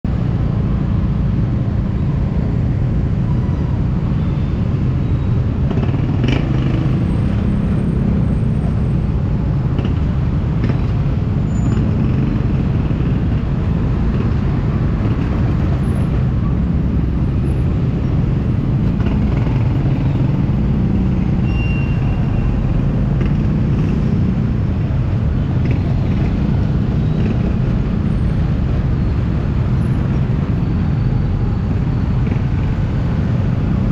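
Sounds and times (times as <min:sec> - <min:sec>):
slow city traffic rumble: 0:00.0 - 0:33.9.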